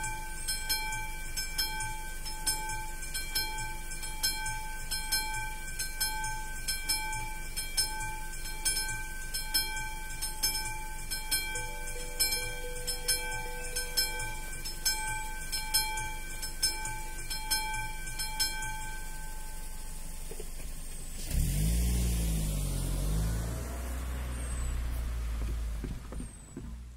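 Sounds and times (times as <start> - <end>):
level-crossing warning bell: 0.0 - 21.7
car engine: 0.0 - 26.9.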